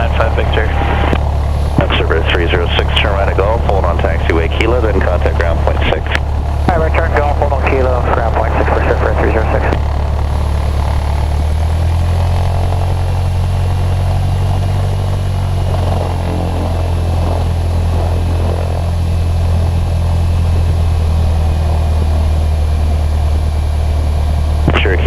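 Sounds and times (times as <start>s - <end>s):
small plane engine and propeller: 0.0s - 25.0s.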